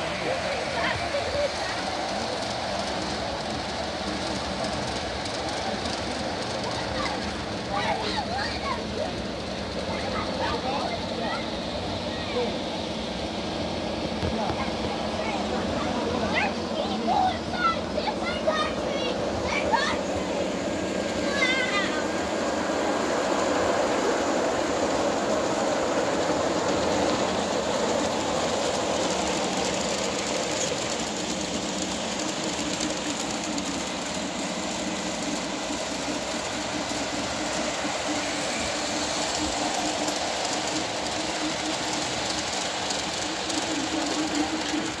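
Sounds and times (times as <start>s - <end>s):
model train wheels rolling on rails: 0.0s - 45.0s.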